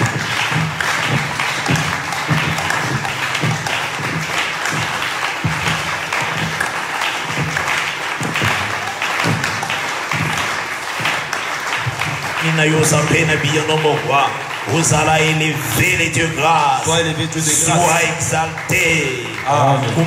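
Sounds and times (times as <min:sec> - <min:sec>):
congregation applauding: 0:00.0 - 0:20.0
music playing: 0:00.0 - 0:20.0.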